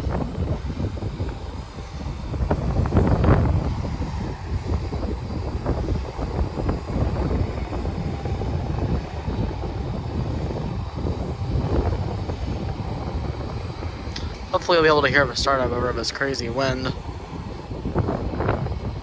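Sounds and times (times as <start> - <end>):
faint high whine: 0.0 - 19.0
wind buffeting microphone: 0.0 - 19.0.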